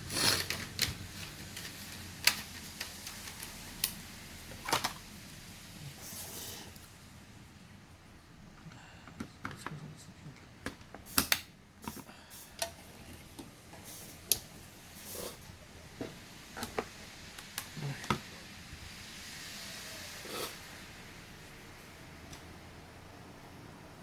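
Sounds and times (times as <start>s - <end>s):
soft hiss: 0.0s - 24.0s.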